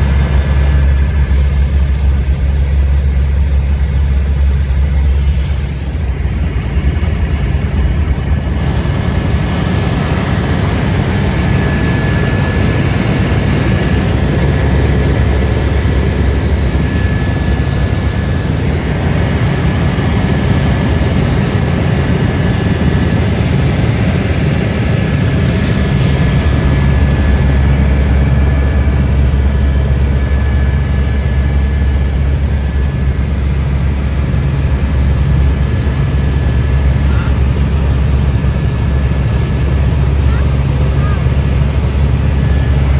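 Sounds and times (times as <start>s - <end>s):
helicopter engine and rotor drone: 0.0s - 42.9s
high whine: 0.0s - 42.9s.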